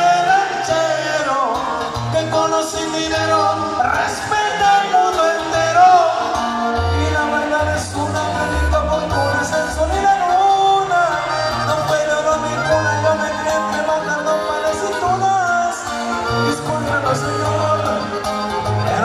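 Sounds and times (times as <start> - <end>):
accordion melody: 0.0 - 19.0
man singing: 0.0 - 19.0.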